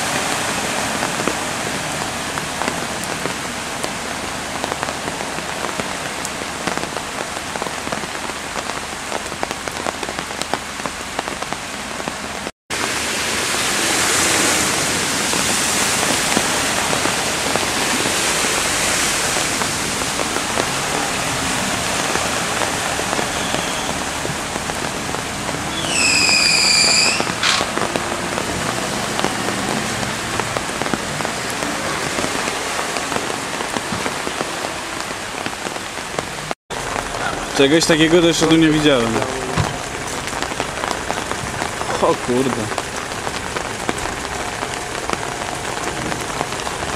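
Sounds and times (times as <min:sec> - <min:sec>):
cars swishing through water: 0:00.0 - 0:08.9, 0:12.7 - 0:46.9
steady rain falling: 0:00.0 - 0:46.9.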